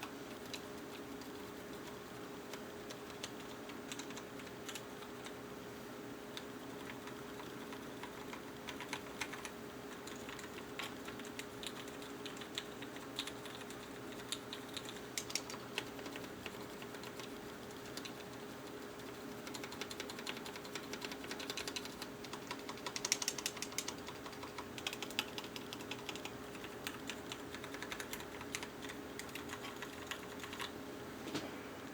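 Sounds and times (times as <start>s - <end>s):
typing on mechanical keyboard: 1.3s - 5.4s, 6.7s - 30.7s.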